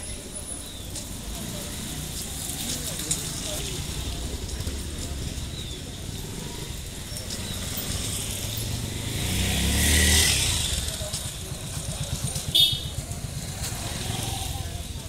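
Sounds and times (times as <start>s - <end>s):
vehicle passing by: 1.3s - 15.0s.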